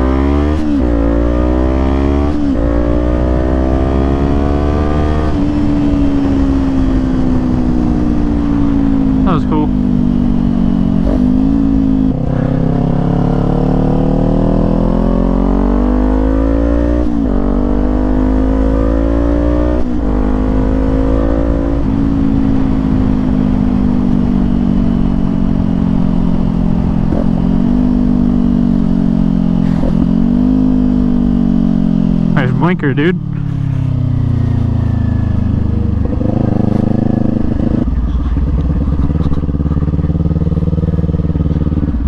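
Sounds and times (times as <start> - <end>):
low wind rumble: 0.0 - 15.8, 16.4 - 32.6, 33.2 - 42.0
motorcycle engine accelerating: 0.0 - 42.0.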